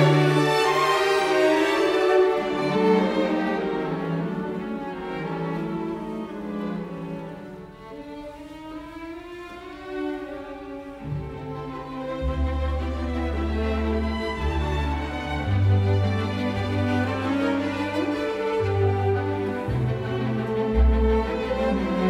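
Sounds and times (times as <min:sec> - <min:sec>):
violin and cello slow notes: 0:00.0 - 0:22.0.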